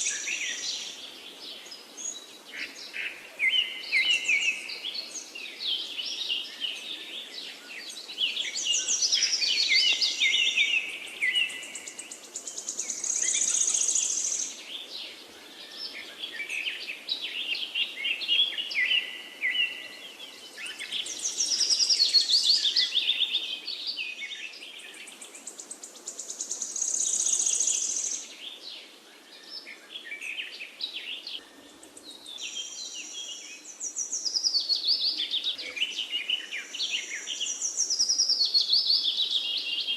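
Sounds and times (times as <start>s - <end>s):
faint steady background hiss: 0.0s - 39.9s
songbirds singing: 0.0s - 39.9s.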